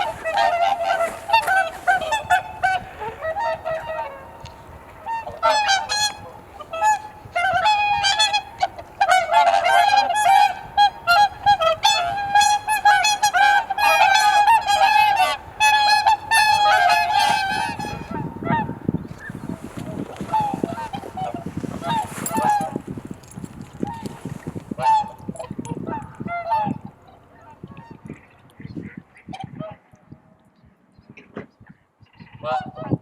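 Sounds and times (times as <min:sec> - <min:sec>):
swans honking: 0:00.0 - 0:28.5
wind buffeting microphone: 0:00.0 - 0:33.0.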